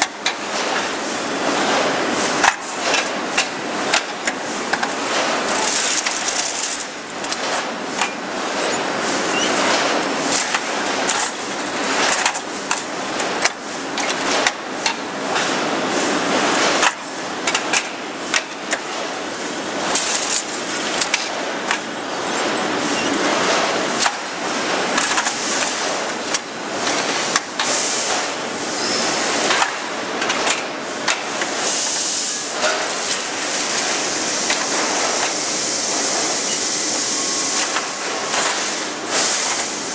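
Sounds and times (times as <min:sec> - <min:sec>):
industrial machinery din: 0:00.0 - 0:39.9.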